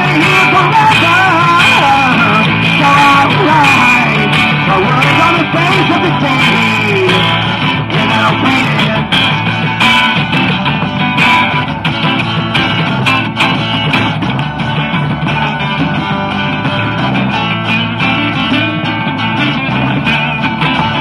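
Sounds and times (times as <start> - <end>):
djembe hand drum beat: 0.0 - 21.0
electric guitar: 0.0 - 21.0
strummed acoustic guitars: 0.0 - 21.0.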